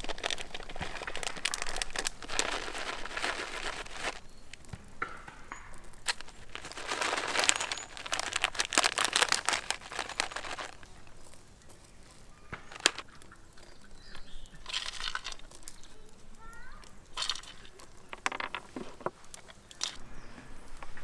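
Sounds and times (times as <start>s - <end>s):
crisp crunching and crackling: 0.0s - 20.0s.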